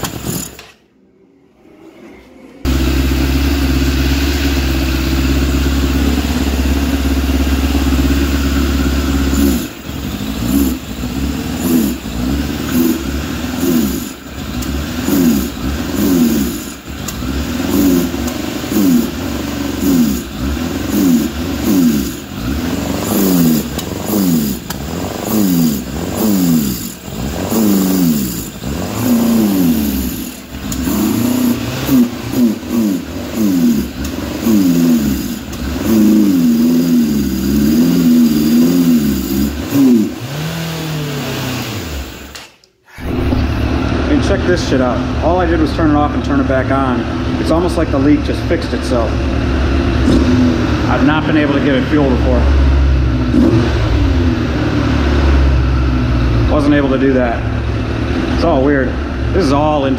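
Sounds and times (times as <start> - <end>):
motorcycle engine idling and revving: 0.0 - 0.8, 2.6 - 59.9.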